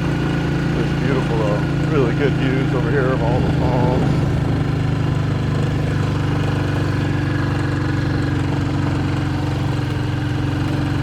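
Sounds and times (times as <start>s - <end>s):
motorcycle engine droning: 0.0s - 11.0s.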